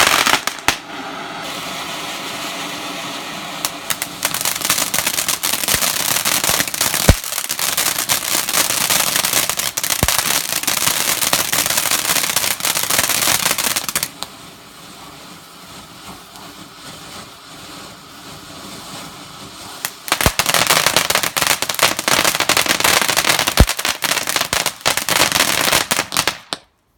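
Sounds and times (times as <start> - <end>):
firework bangs: 0.0 - 26.7
firework fountain crackling: 0.0 - 26.9.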